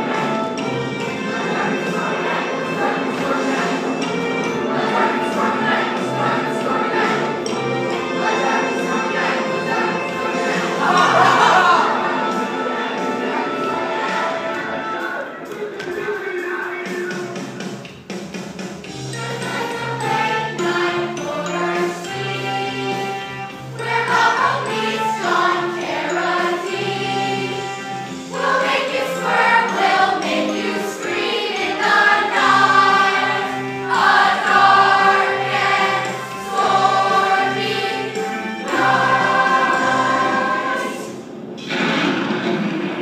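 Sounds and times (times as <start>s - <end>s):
ensemble singing in chorus: 0.0s - 15.6s, 19.1s - 43.0s
instrumental accompaniment: 0.0s - 42.3s.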